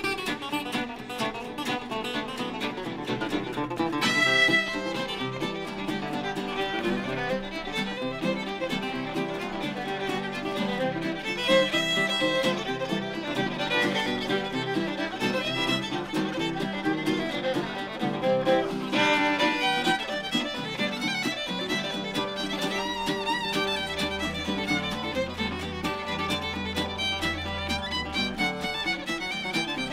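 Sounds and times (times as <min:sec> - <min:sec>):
fiddle playing lead: 0:00.0 - 0:29.9
resonator guitar: 0:00.0 - 0:29.9
strummed rhythm guitar: 0:00.0 - 0:29.9.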